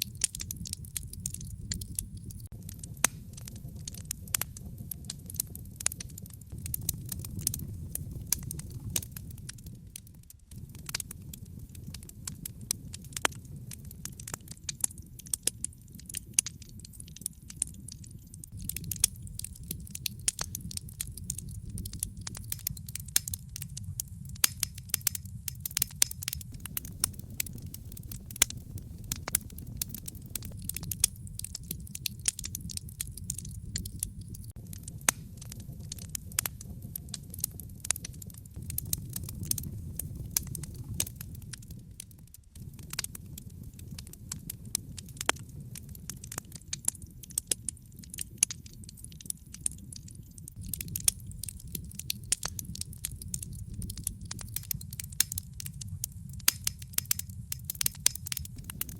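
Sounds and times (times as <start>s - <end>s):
low rumble of flames: 0.0s - 58.9s
wood fire crackling and popping: 0.0s - 58.9s.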